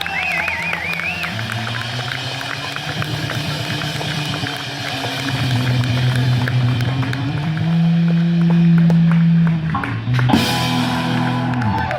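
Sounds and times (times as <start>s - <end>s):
street band playing rock music: 0.0s - 11.9s.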